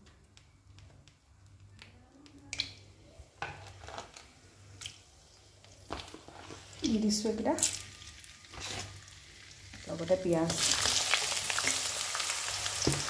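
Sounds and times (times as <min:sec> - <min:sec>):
oil crackling: 0:00.2 - 0:13.0.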